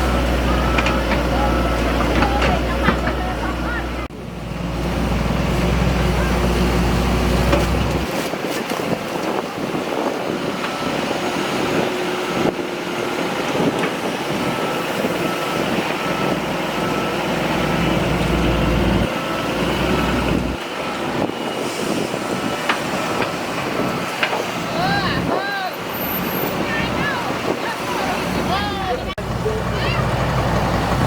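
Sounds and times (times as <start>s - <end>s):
heavy machinery diesel engine rumble: 0.0s - 31.0s.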